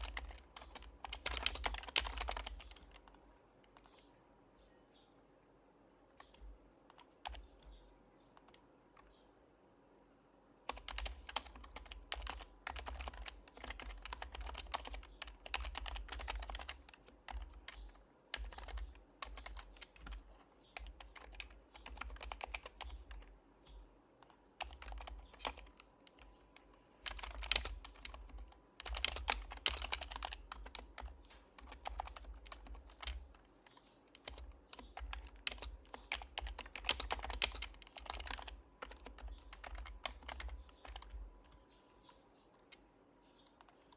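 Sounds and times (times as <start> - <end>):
typing on quiet keyboard: 0.0 - 4.0, 6.1 - 9.1, 10.7 - 43.9.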